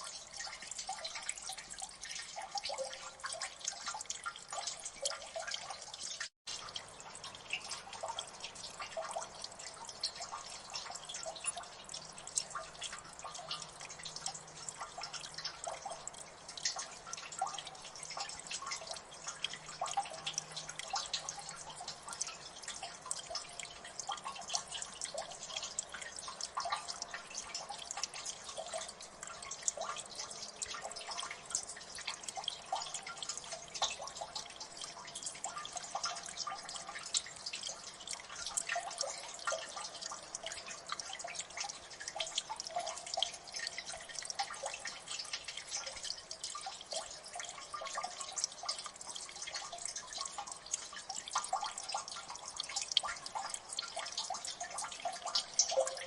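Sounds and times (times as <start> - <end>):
water drops plinking: 6.6 - 56.0.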